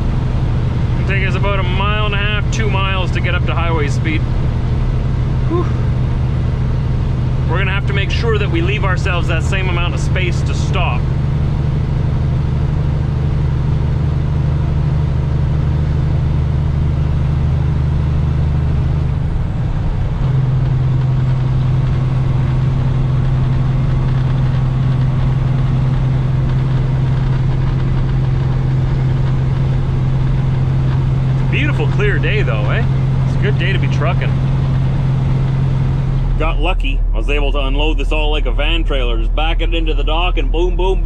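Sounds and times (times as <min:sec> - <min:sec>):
diesel truck engine under load: 0:00.0 - 0:41.0.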